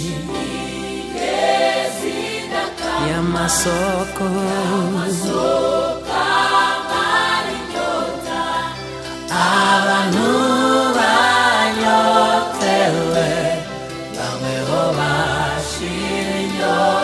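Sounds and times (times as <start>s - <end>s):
gospel choir singing: 0.0s - 17.0s
instrumental backing: 0.0s - 17.0s.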